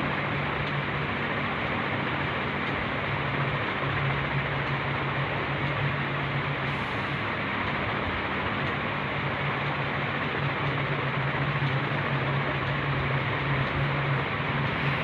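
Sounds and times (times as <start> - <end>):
low hum: 0.0 - 15.0
steady rushing noise: 0.0 - 15.0.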